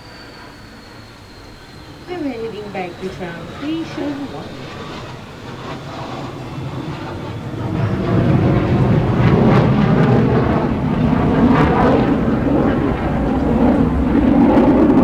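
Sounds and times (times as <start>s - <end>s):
tram rumbling: 0.0s - 15.0s.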